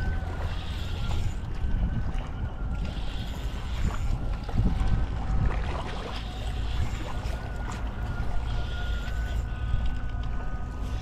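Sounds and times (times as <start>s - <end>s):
faint thin whine: 0.0s - 11.0s
water at shoreline: 0.0s - 11.0s
wind buffeting microphone: 0.0s - 11.0s.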